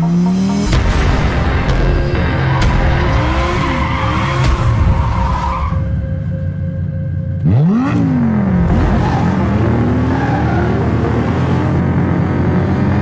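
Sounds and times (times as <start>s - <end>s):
car engine revving: 0.0s - 6.4s, 7.3s - 13.0s.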